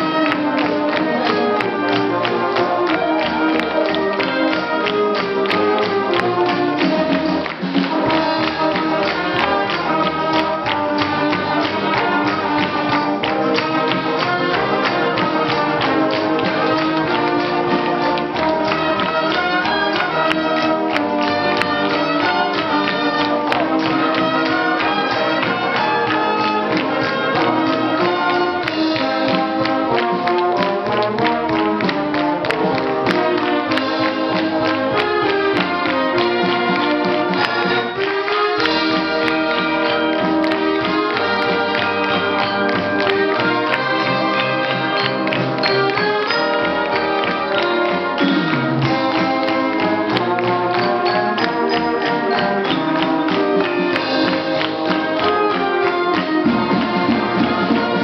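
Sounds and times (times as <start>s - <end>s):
brass band playing: 0.0s - 58.0s
steady drum beat: 0.0s - 58.0s.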